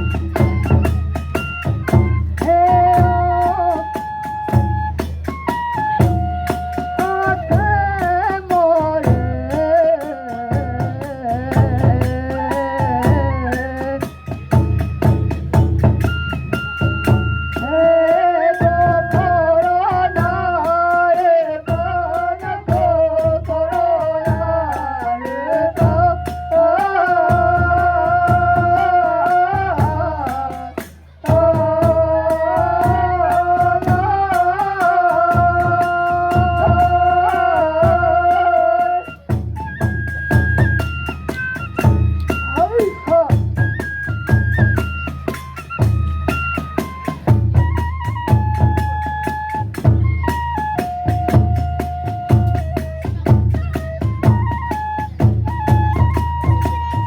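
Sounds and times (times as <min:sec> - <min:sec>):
bamboo flute melody: 0:00.0 - 0:57.0
drum beats: 0:00.0 - 0:57.0.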